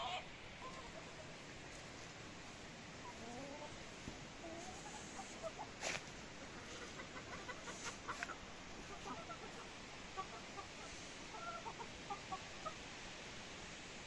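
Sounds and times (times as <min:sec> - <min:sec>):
hens clucking: 0:00.0 - 0:01.8, 0:02.4 - 0:12.8.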